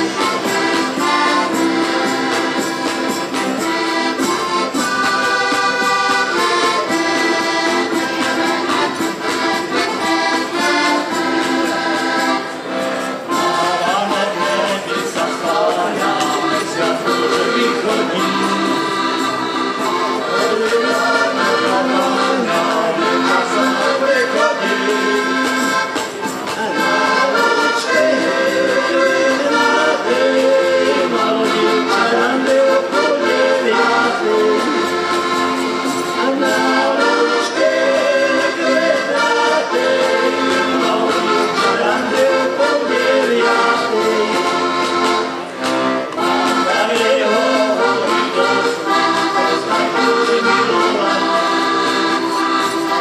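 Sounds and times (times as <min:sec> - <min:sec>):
button accordions playing folk tune: 0:00.0 - 0:53.0.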